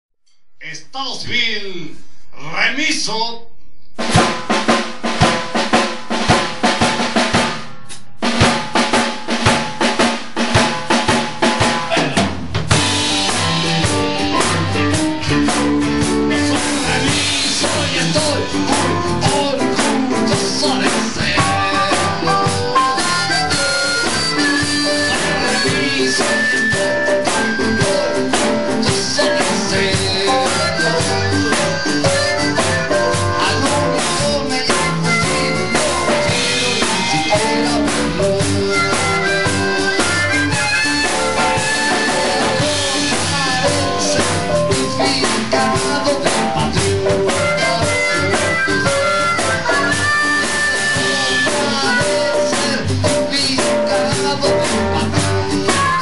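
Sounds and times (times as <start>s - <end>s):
drum kit: 4.0s - 56.0s
rock band playing: 4.0s - 56.0s.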